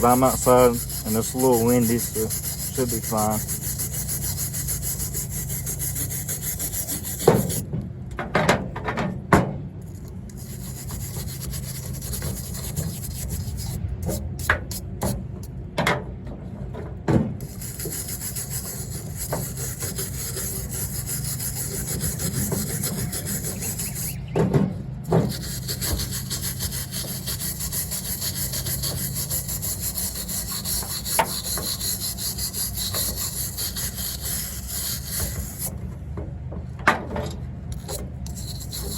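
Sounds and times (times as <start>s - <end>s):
rubbing and scraping on coconut shell: 0.0s - 7.6s, 9.8s - 15.1s, 17.4s - 24.3s, 25.0s - 35.8s, 37.7s - 38.9s.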